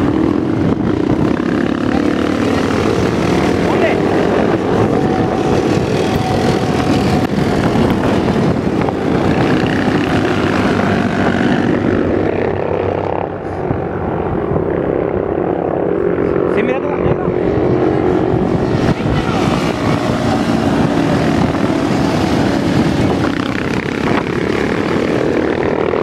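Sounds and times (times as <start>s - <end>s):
motorcycles riding past: 0.0s - 26.0s.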